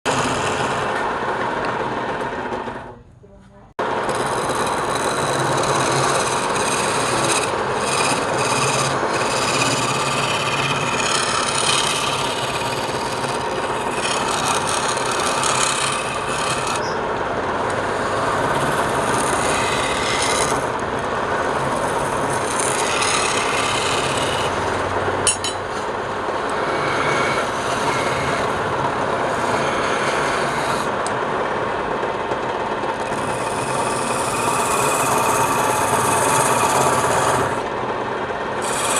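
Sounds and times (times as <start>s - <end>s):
turning tool scraping wood: 0.0s - 2.9s, 4.0s - 17.0s, 17.7s - 31.2s, 32.9s - 37.7s, 38.6s - 38.9s
lathe motor hum: 0.1s - 3.0s, 3.8s - 38.9s.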